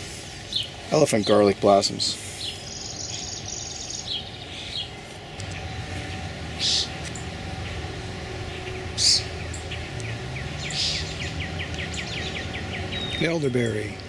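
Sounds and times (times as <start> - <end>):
low steady hum: 0.0 - 14.0
rapid repeated bird notes: 0.0 - 14.0
harsh high bird chirps: 0.4 - 14.0.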